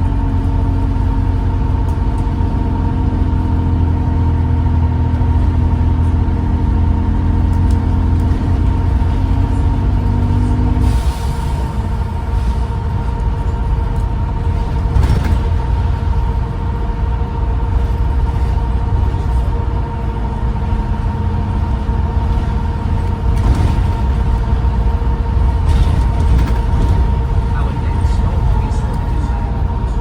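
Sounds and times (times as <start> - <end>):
bus engine rumble: 0.0 - 30.0.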